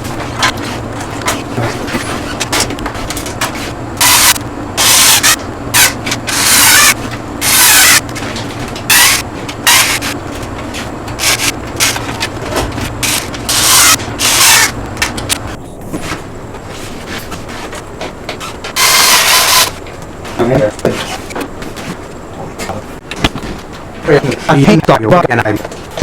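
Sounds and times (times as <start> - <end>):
rubbing or scraping noises: 0.0 - 24.9
steady low hum: 0.0 - 26.0.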